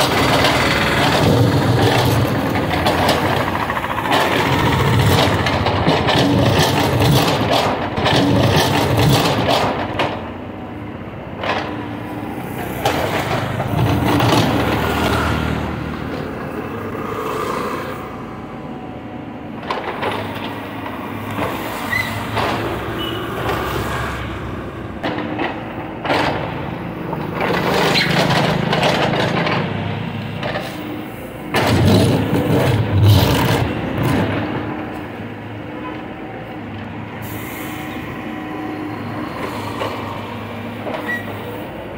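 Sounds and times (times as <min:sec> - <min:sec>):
diesel engine working under load: 0:00.0 - 0:17.1, 0:24.2 - 0:41.9.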